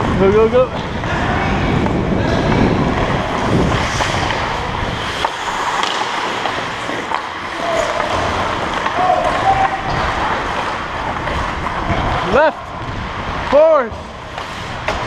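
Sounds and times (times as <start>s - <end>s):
wind rushing over microphone: 0.0s - 6.8s, 7.6s - 15.0s.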